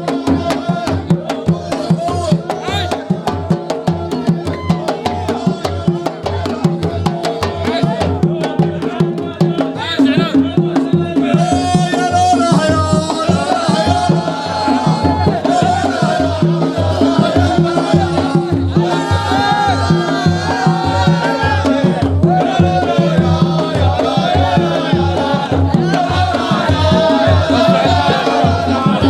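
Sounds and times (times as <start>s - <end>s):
drum beat: 0.0s - 29.0s.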